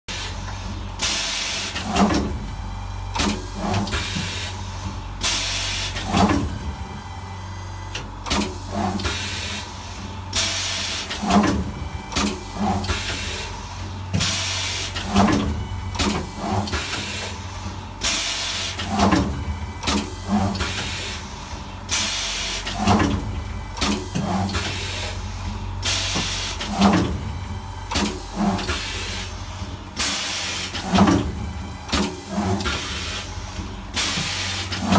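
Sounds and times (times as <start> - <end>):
low machine hum: 0.1 - 34.9.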